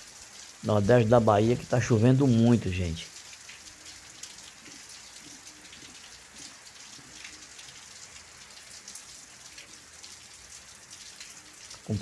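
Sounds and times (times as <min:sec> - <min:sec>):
heavy rain on roof tiles: 0:00.0 - 0:12.0.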